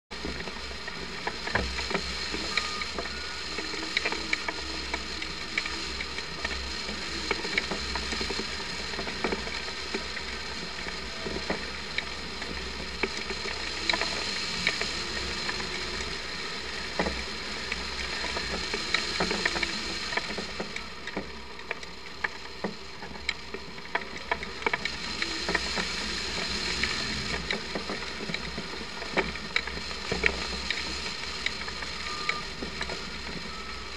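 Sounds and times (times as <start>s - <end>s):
wind buffeting rumble: 0.1s - 33.9s.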